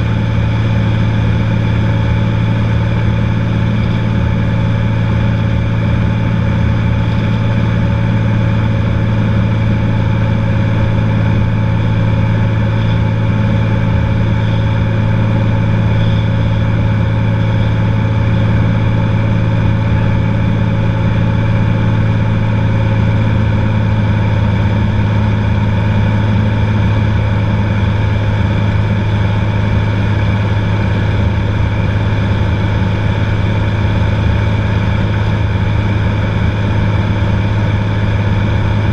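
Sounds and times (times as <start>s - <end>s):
airplane engine and propeller drone: 0.0s - 38.9s.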